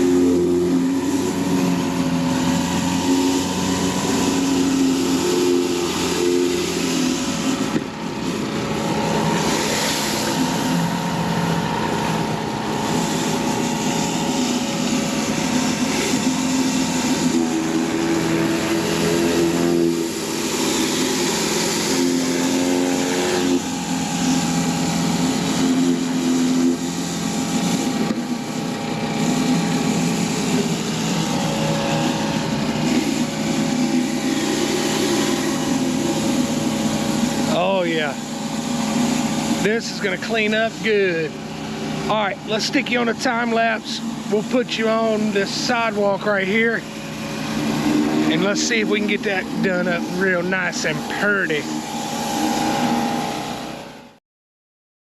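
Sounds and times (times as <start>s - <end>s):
water spray hissing on concrete: 0.0s - 12.1s, 12.7s - 53.5s
pressure washer engine running: 0.0s - 54.2s.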